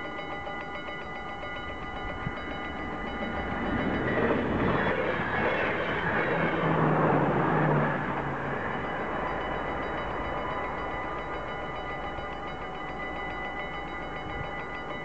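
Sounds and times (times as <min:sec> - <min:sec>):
electric train passing: 0:00.0 - 0:15.0
level crossing bells ringing: 0:00.0 - 0:15.0.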